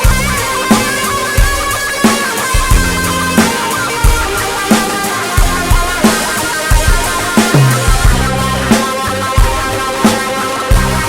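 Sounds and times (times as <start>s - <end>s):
drum kit beat: 0.0s - 11.0s
rock band playing: 0.0s - 11.0s.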